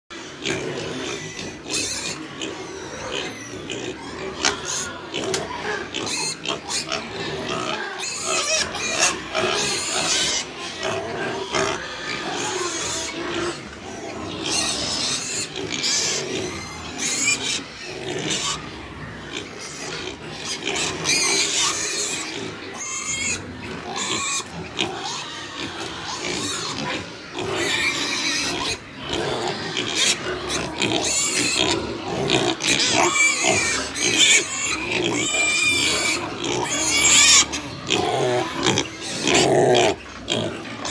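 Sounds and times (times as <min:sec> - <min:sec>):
pigs grunting: 0:00.1 - 0:40.9
pigs squealing: 0:00.1 - 0:40.9.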